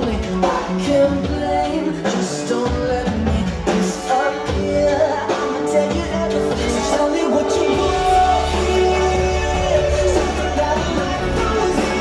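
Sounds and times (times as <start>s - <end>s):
pop-rock song with singing: 0.0s - 12.0s.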